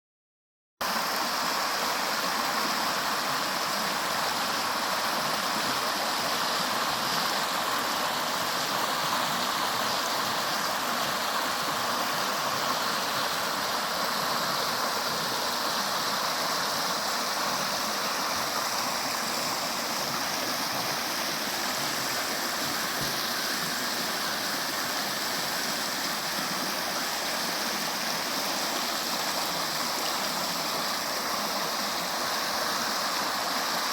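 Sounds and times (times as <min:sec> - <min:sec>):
river water rushing: 0:00.8 - 0:33.9.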